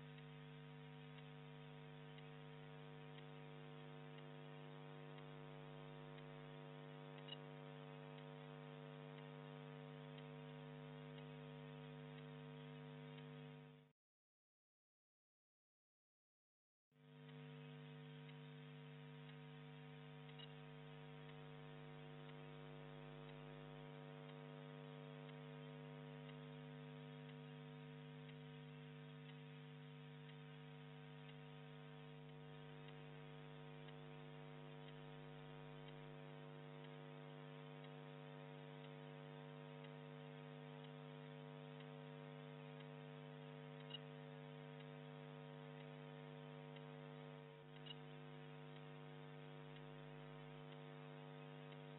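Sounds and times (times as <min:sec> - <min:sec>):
tiny ticks: 0:00.0 - 0:13.6, 0:17.3 - 0:51.9
faint electrical hum: 0:00.0 - 0:13.9, 0:17.0 - 0:51.9.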